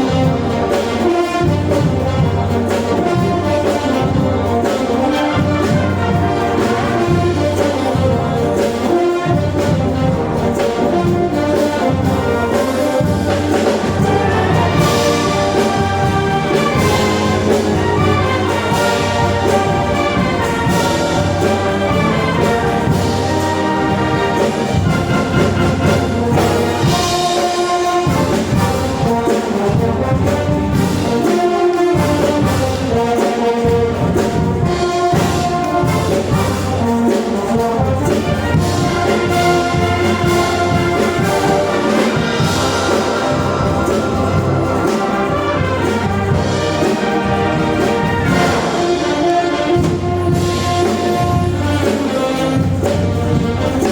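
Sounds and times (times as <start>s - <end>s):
brass band playing: 0.0s - 53.9s.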